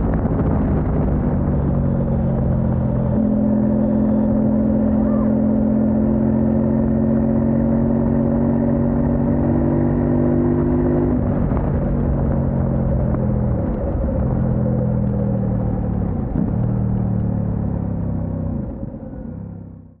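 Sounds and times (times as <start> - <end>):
motorcycle engine running: 0.0 - 18.5.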